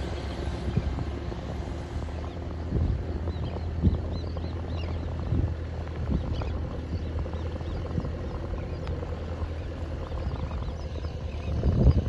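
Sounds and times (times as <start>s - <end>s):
distant outboard engine: 0.0s - 12.0s.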